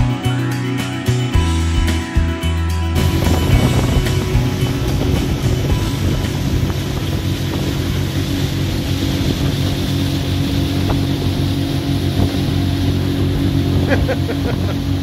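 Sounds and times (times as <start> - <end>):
outboard motor running: 0.0 - 15.0
wind buffeting microphone: 3.0 - 15.0.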